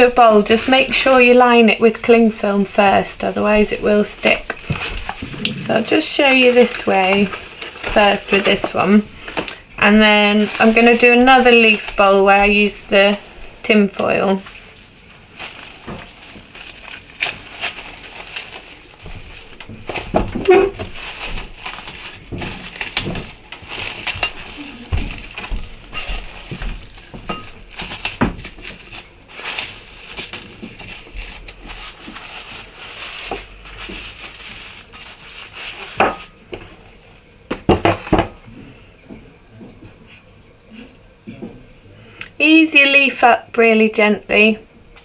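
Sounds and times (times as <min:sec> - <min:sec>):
cling film crinkling: 0:00.0 - 0:36.6.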